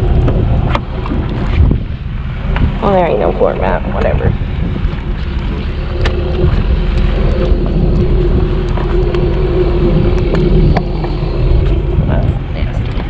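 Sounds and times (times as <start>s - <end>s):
truck engine whining: 0.0s - 13.0s
wind on microphone: 0.0s - 13.0s.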